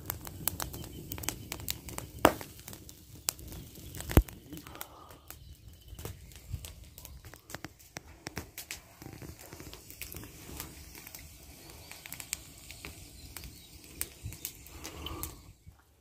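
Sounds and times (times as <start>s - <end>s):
dry twigs crackling and snapping: 0.0s - 15.6s.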